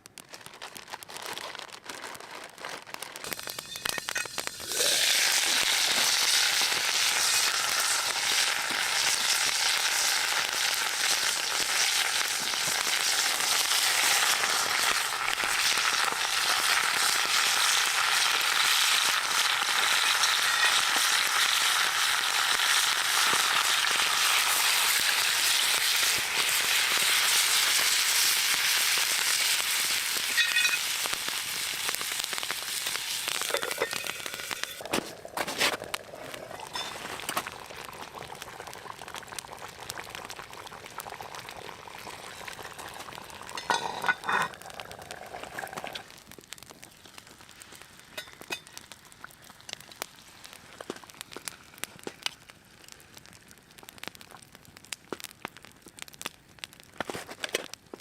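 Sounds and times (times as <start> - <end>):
food sizzling in a pot: 3.2 - 53.2.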